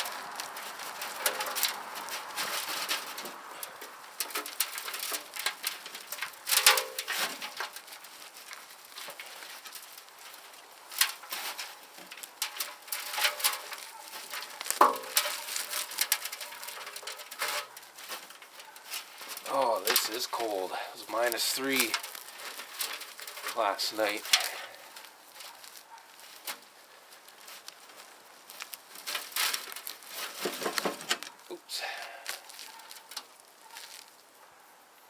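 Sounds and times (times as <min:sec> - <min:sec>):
roots snapping: 0:00.0 - 0:34.4
soil and roots rustling: 0:00.0 - 0:35.0.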